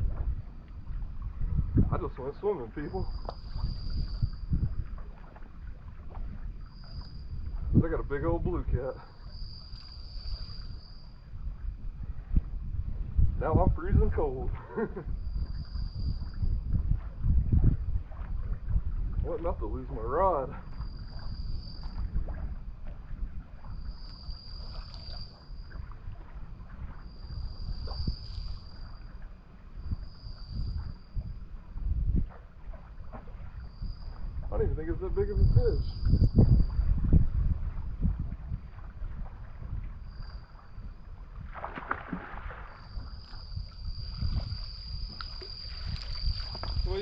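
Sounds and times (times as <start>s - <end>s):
water sloshing and splashing: 0.0s - 13.3s, 14.2s - 35.2s, 35.9s - 47.0s
wind buffeting microphone: 0.0s - 47.0s.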